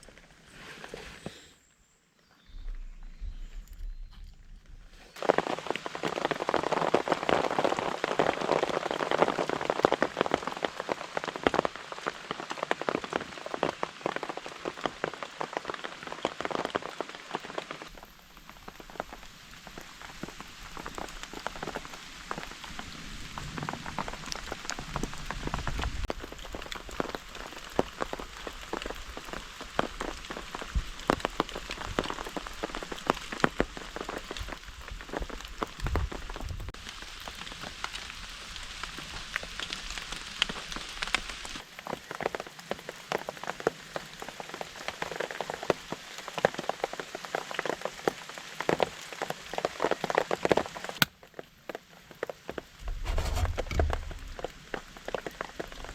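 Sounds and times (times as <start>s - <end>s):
steady rain falling: 2.6s - 55.9s
large raindrops tapping: 3.4s - 55.9s.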